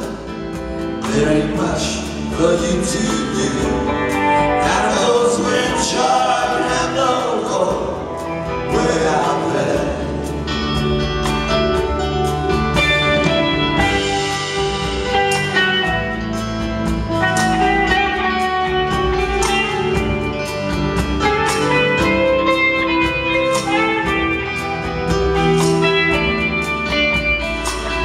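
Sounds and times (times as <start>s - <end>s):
bass: 0.0s - 28.0s
electric guitar melody: 0.0s - 28.0s
steady drum beat: 0.0s - 28.0s.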